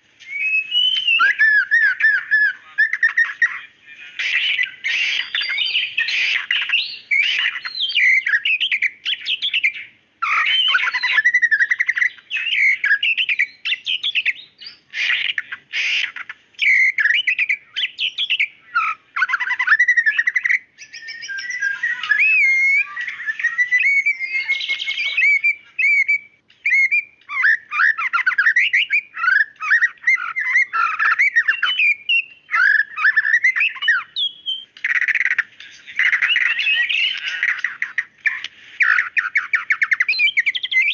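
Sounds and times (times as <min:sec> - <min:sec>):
songbird singing whistled phrases: 0:00.2 - 0:40.9.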